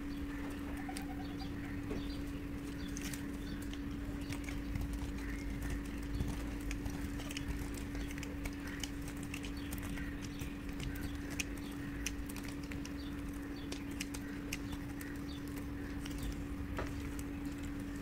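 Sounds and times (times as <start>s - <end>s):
steady low hum: 0.0s - 18.0s
soap cracking and crunching: 2.5s - 18.0s.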